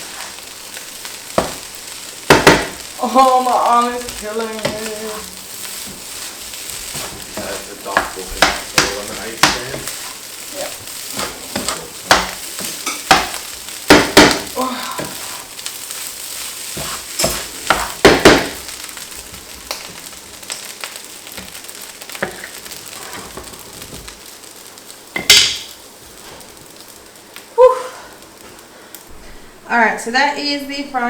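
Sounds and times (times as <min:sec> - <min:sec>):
rice sizzling in a pan: 0:00.0 - 0:31.0.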